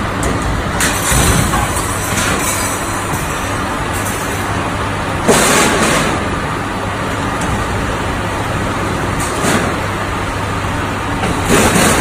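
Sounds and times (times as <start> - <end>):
production line machine hum: 0.0 - 12.0.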